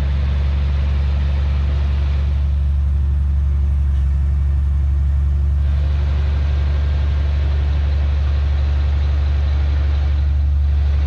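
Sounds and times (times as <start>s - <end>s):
heavy diesel engine droning: 0.0s - 11.0s.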